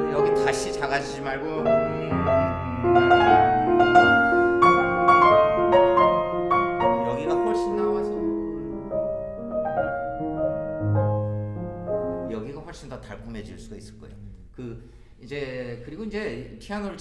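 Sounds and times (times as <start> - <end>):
slow piano melody: 0.0 - 14.5.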